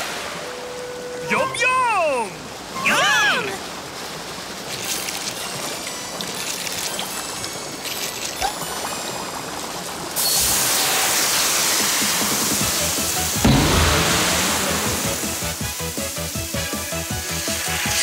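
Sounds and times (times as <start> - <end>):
loud rushing gush of water: 0.0 - 18.0
river flowing gently: 0.0 - 18.0.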